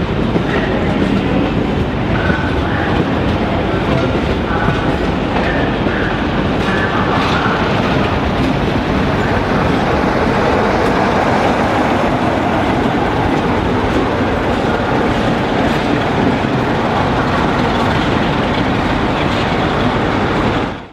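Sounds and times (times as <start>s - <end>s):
train wheels on rails: 0.0s - 20.9s.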